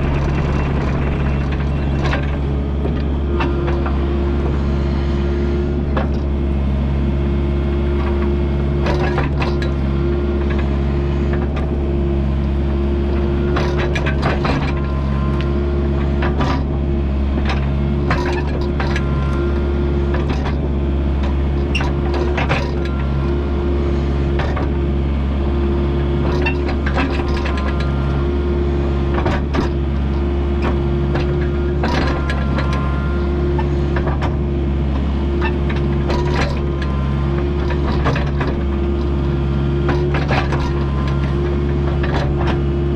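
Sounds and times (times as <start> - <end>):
knocks and clatter of digging: 0.0 - 4.7, 8.0 - 11.8, 13.1 - 24.9, 26.1 - 42.9
excavator diesel engine running: 0.0 - 42.9.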